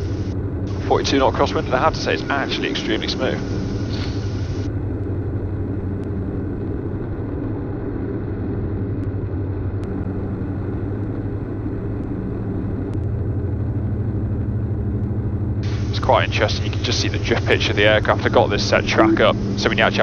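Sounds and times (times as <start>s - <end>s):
aircraft engines and propellers droning: 0.0s - 20.0s.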